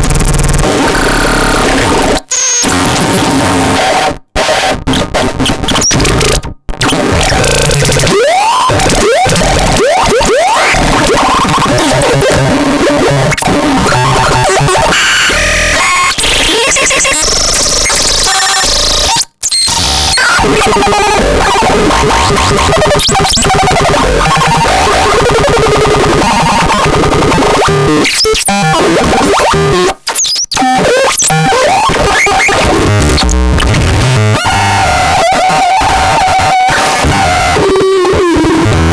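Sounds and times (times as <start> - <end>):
harsh glitchy synthesized noise: 0.0 - 38.9.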